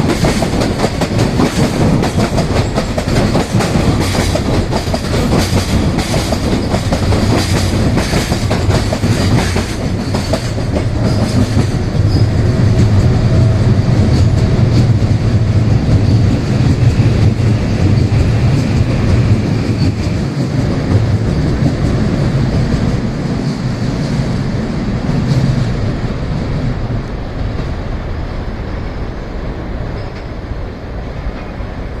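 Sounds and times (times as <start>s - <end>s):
train wheels clattering over rail joints: 0.0s - 26.7s.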